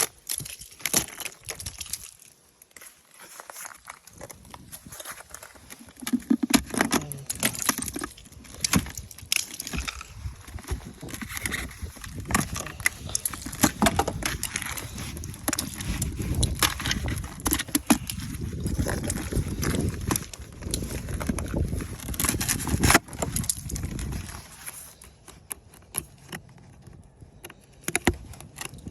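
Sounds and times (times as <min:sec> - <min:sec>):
ice cracking and knocking: 0:00.0 - 0:28.9.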